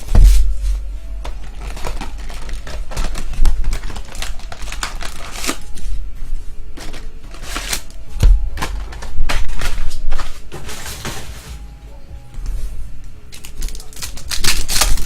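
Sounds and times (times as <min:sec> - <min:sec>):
foil wrappers crinkling: 0:00.0 - 0:06.0, 0:06.7 - 0:11.6, 0:13.3 - 0:15.0.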